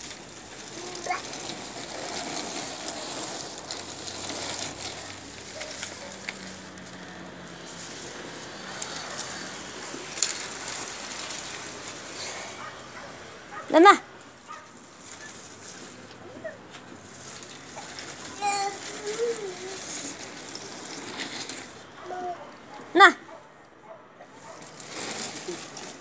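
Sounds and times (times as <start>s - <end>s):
plastic wheels rolling over tiles: 0.0s - 23.0s, 24.3s - 26.0s.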